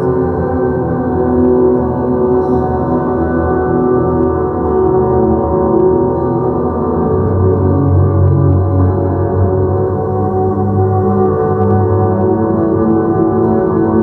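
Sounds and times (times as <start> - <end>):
ambient drone music: 0.0 - 14.0.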